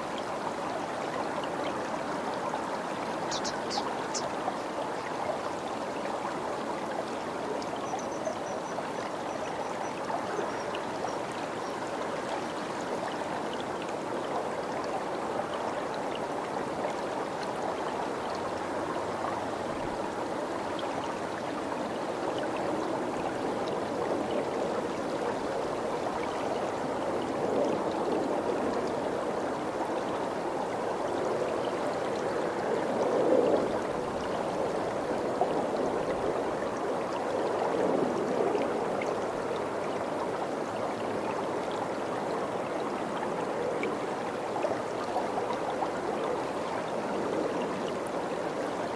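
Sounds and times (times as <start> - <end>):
stream water running: 0.0 - 48.9.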